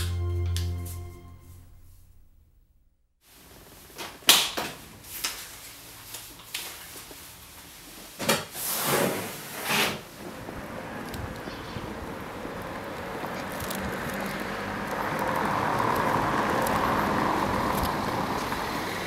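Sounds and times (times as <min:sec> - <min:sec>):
outdoor background noise: 0:03.2 - 0:19.0.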